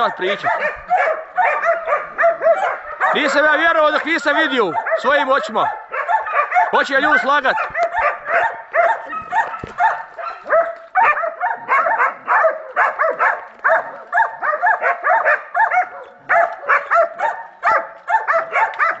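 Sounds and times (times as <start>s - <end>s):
hounds barking rapidly: 0.0s - 19.0s.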